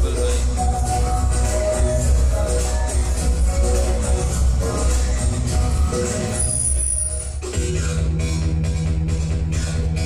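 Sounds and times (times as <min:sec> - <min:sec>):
music from a television: 0:00.0 - 0:10.0.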